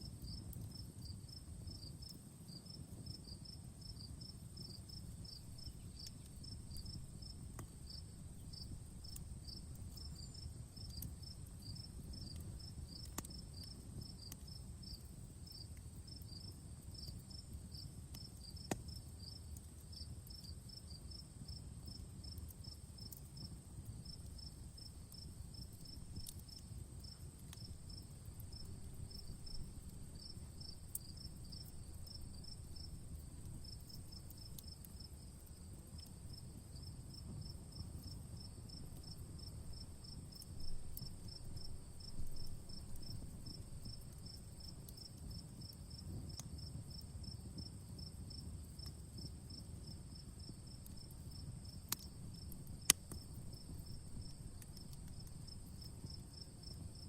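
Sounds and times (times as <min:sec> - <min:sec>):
wood fire rumbling and popping: 0:00.0 - 0:57.0
insects chirping: 0:00.2 - 0:57.0.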